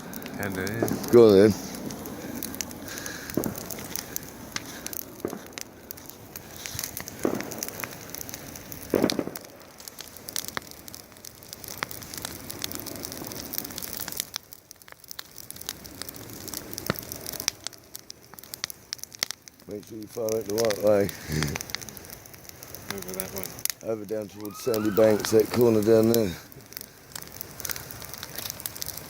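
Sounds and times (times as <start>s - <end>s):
bonfire crackling: 0.0s - 29.0s.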